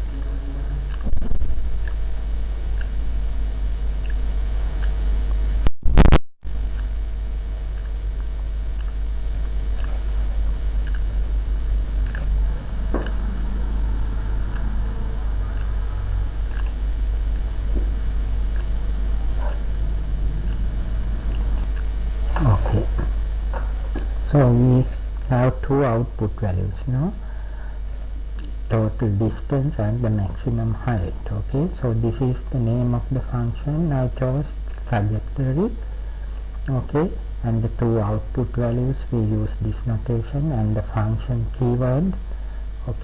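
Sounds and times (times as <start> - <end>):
low background rumble: 6.5 - 43.0.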